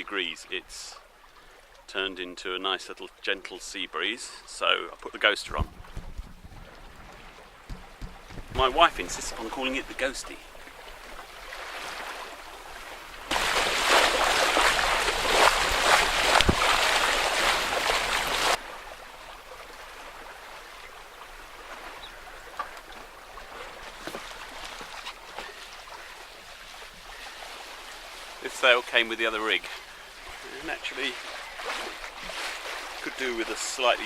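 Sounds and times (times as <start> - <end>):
water rushing along a hull: 0.0 - 34.0.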